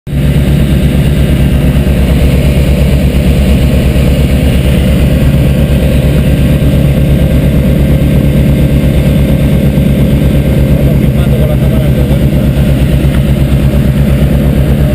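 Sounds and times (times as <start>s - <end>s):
light aircraft engine droning: 0.1s - 14.9s.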